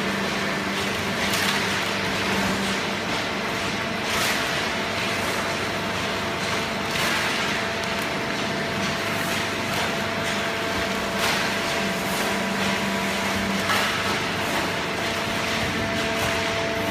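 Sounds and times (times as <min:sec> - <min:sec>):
industrial baler hum: 0:00.0 - 0:16.9.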